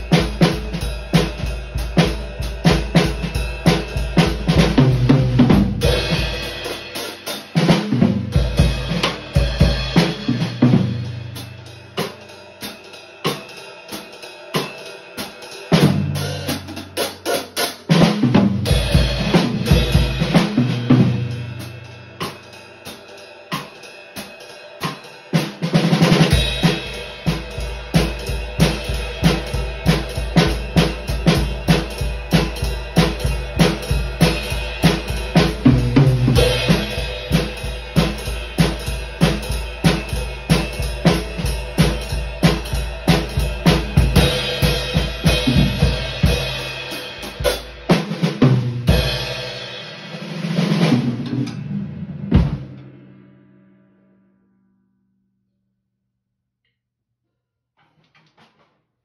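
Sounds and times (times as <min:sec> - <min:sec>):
drum kit played with sticks: 0:00.0 - 0:53.5.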